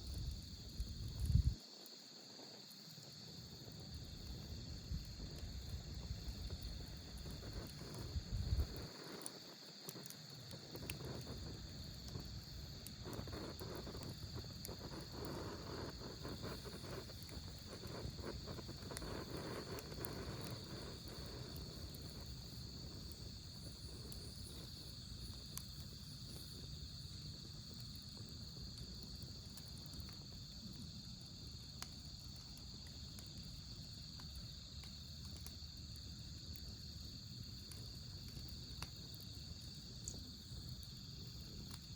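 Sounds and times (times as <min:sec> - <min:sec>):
crickets chirping: 0:00.0 - 0:41.9
wood fire crackling: 0:00.0 - 0:41.9.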